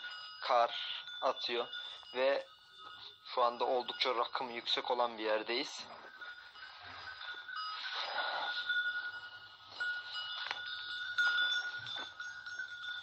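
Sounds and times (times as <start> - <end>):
livestock bells ringing: 0.0 - 13.0.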